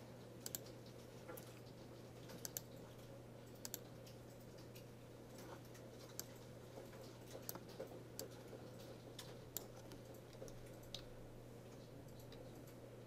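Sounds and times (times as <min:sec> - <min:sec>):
low electrical hum: 0:00.0 - 0:13.0
keyboard and mouse clicks: 0:00.4 - 0:11.1, 0:11.8 - 0:12.8.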